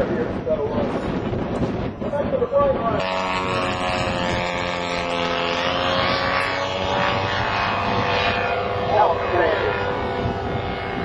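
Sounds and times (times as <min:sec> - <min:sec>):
model plane engines droning: 0:00.0 - 0:11.0.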